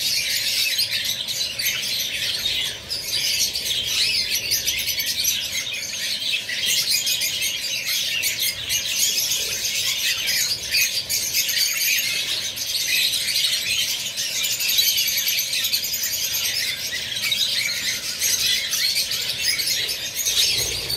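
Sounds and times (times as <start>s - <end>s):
lovebirds chattering: 0.0s - 20.9s.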